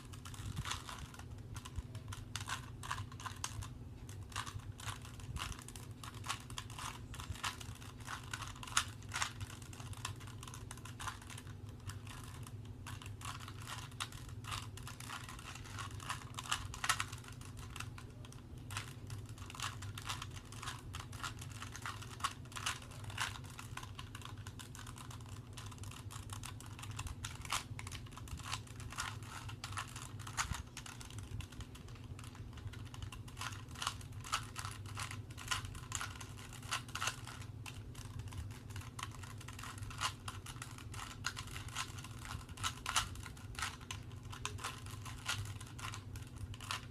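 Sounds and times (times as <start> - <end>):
puzzle cube plastic clicks: 0.0 - 46.9
steady low hum: 0.0 - 46.9.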